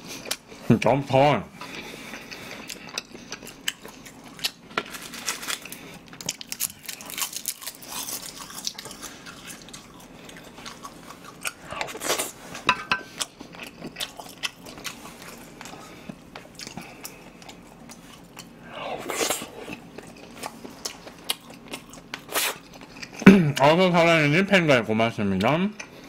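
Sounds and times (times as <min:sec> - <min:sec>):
chewing and wet mouth sounds: 0:01.6 - 0:04.7, 0:05.5 - 0:23.7.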